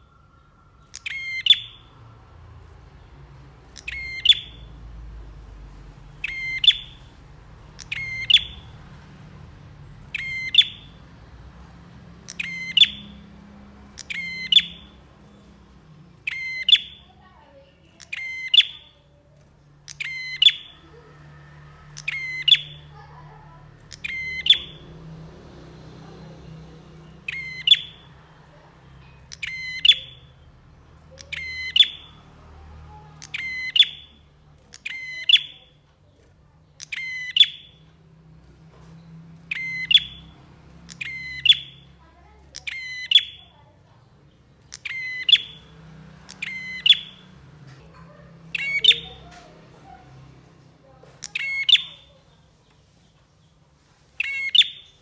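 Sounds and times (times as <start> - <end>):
songbird calling: 0.0 - 25.0, 27.0 - 32.3, 32.9 - 35.8, 36.6 - 37.9, 38.9 - 50.2, 51.0 - 52.4, 54.2 - 55.0
faint low hum: 0.0 - 55.0.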